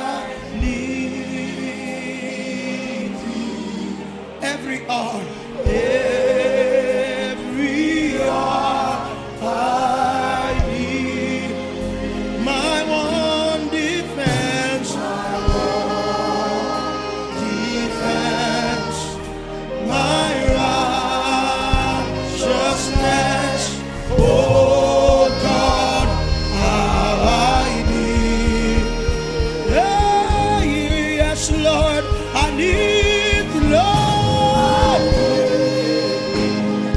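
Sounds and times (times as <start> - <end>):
choir singing: 0.0 - 36.9
instrumental backing: 0.0 - 36.9.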